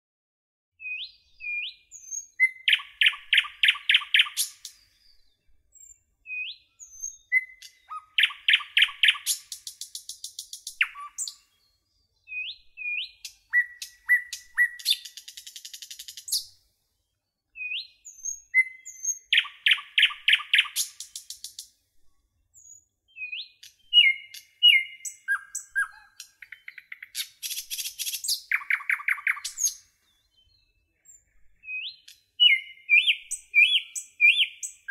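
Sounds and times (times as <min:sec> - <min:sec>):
songbird singing: 0:00.8 - 0:34.9.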